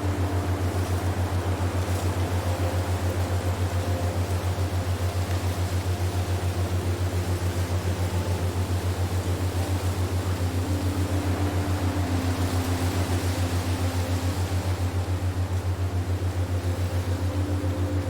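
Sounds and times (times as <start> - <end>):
pulsing low hum: 0.0 - 18.0
wind-like hiss: 0.0 - 18.0.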